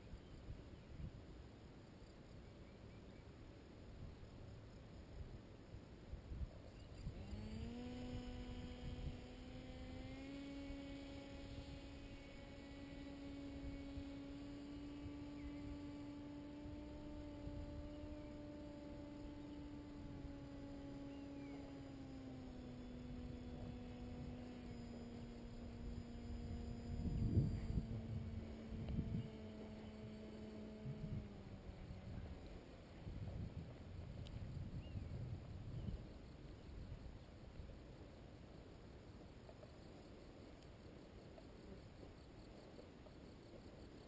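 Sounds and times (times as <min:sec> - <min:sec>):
distant paramotor engine hum: 0:00.0 - 0:44.0.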